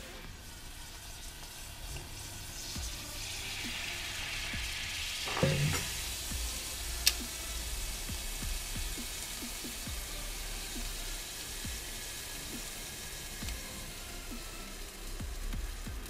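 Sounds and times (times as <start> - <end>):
liquid nitrogen hissing: 0.0 - 16.0.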